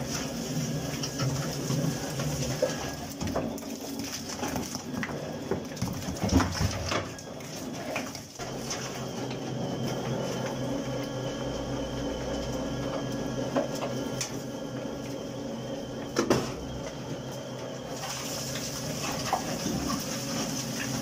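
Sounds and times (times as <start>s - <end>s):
digger machine hum: 0.0s - 21.0s.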